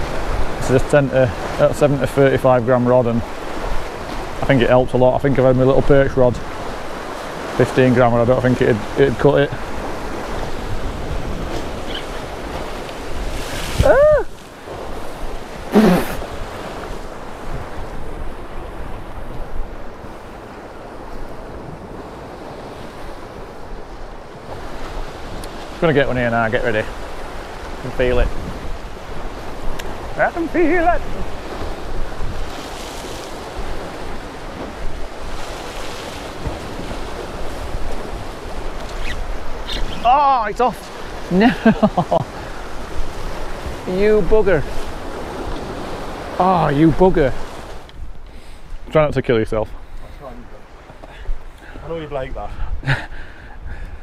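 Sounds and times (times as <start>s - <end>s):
waves breaking on rocks: 0.0s - 52.4s
wind buffeting microphone: 0.0s - 54.0s.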